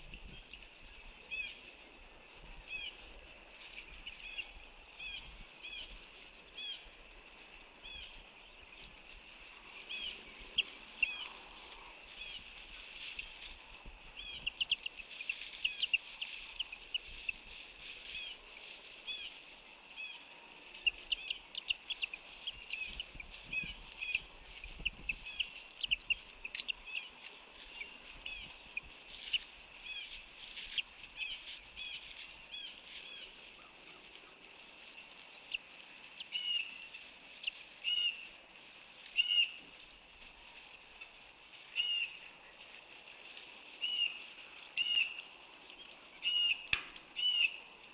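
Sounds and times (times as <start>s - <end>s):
birds chirping: 2.6s - 47.9s.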